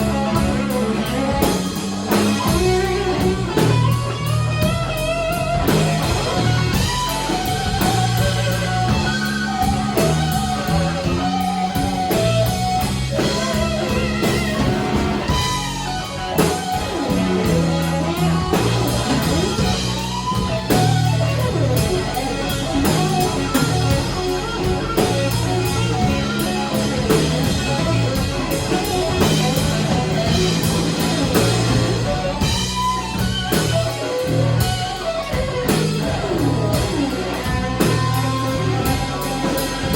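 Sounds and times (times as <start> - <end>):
blues band playing: 0.0 - 39.9
electric guitar solo: 0.0 - 39.9.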